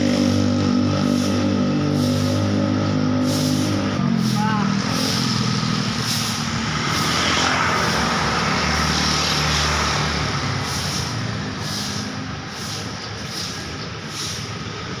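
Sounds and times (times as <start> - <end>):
heavy vehicle rumble: 0.0 - 15.0
road traffic passing: 0.0 - 15.0.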